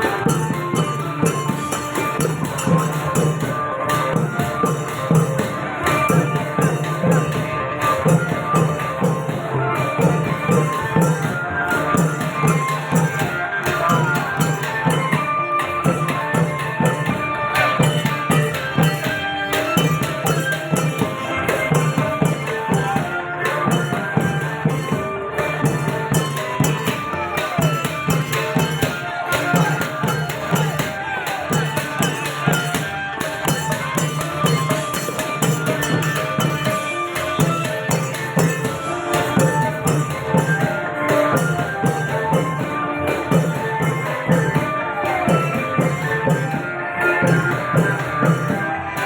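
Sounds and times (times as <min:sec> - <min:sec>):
driving drum beat: 0:00.0 - 0:49.0
jingling cymbals: 0:00.0 - 0:49.0.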